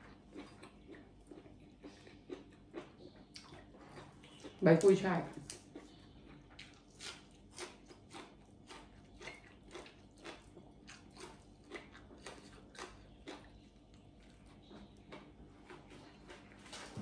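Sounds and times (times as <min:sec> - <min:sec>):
person chewing with wet smacks: 0:00.0 - 0:17.0.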